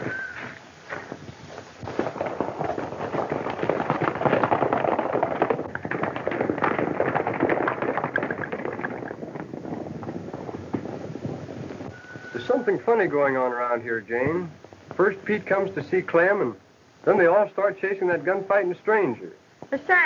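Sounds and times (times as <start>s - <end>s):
horses galloping hoofbeats: 0.0s - 20.0s.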